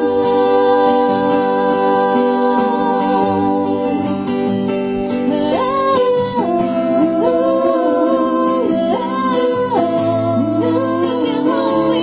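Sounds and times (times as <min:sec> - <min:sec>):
women singing wordless harmony: 0:00.0 - 0:04.5, 0:05.2 - 0:12.0
guitar accompaniment: 0:00.0 - 0:12.0.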